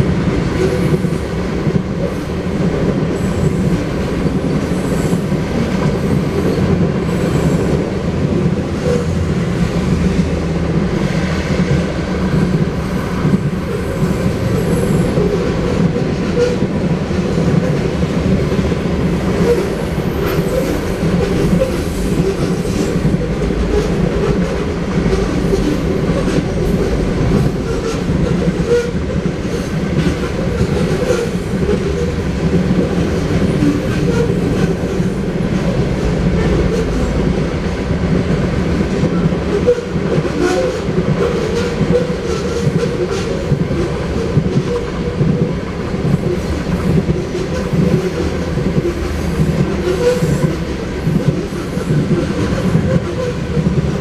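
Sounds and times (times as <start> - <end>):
train wheels rumbling on rails: 0.0 - 54.0
wheels clickety-clack: 0.1 - 54.0.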